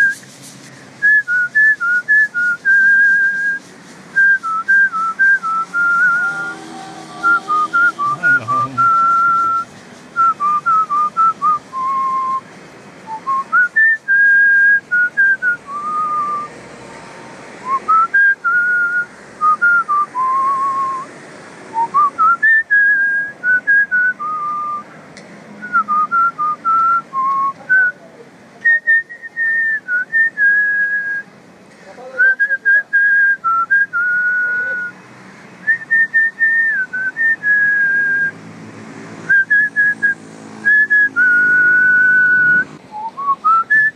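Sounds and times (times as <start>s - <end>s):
person whistling melody: 0.0s - 0.3s, 1.0s - 12.4s, 13.1s - 16.5s, 17.6s - 21.1s, 21.8s - 24.8s, 25.6s - 28.0s, 28.6s - 31.3s, 32.2s - 35.0s, 35.6s - 38.3s, 39.3s - 43.9s
steady background hiss: 0.0s - 43.9s.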